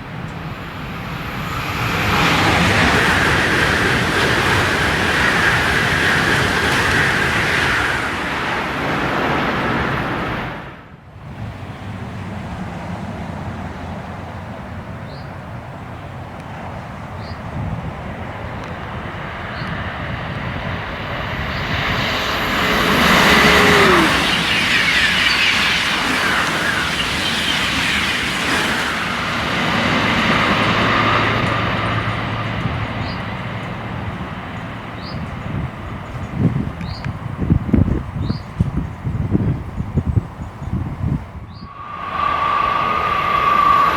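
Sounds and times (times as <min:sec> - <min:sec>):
high-speed train passing: 0:00.0 - 0:43.9
steady train rumble: 0:00.0 - 0:43.9.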